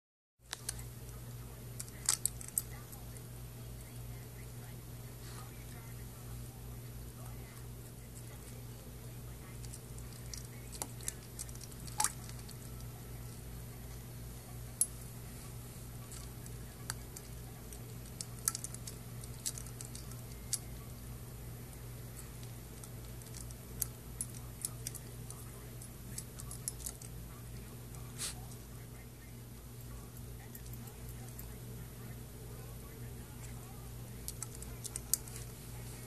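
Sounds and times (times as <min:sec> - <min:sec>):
low electrical hum: 0:00.4 - 0:36.0.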